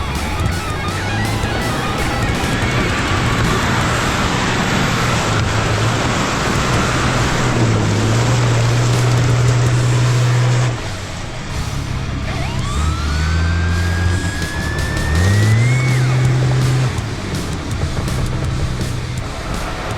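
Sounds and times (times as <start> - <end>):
steady rushing noise: 0.0 - 19.9
truck engine running hard: 0.0 - 19.9.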